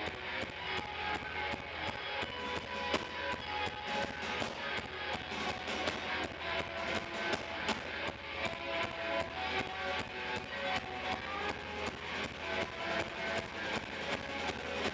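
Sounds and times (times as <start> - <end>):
bass guitar: 0.0 - 14.9
drum kit beat: 0.0 - 14.9
strummed electric guitars: 0.0 - 14.9.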